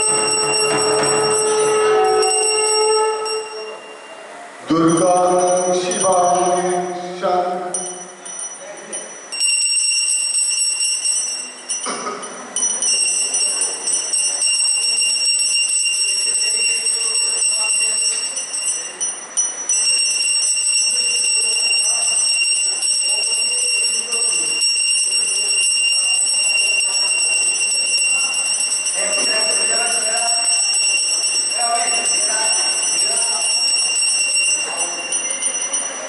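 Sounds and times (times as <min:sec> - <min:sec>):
bell ringing: 0:00.0 - 0:04.4, 0:05.0 - 0:36.0
murmur of voices: 0:00.0 - 0:36.0.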